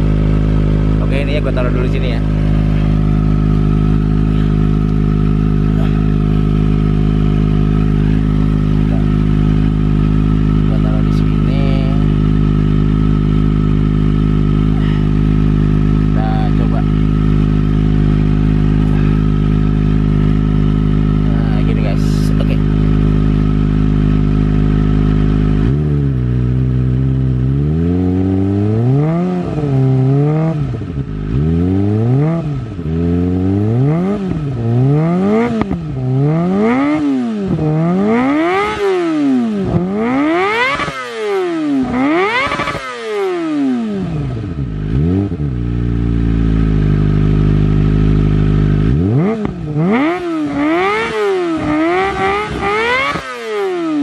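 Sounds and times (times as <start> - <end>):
motorcycle engine idling: 0.0 - 54.0
motorcycle throttle blips: 0.0 - 54.0.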